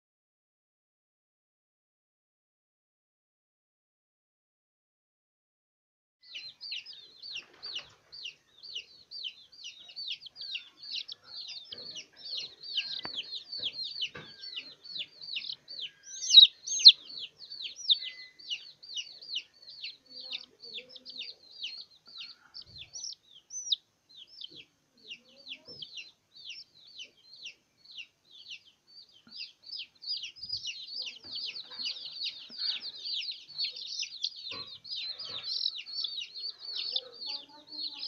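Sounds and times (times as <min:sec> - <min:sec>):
baby chick peeping: 0:06.2 - 0:38.0.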